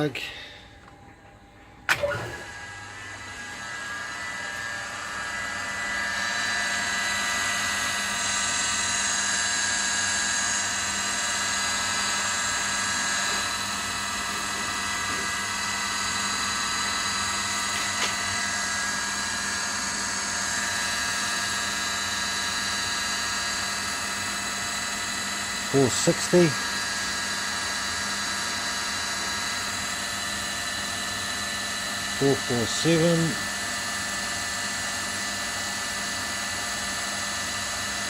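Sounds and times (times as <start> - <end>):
electric motor whining and humming: 1.9 - 38.0.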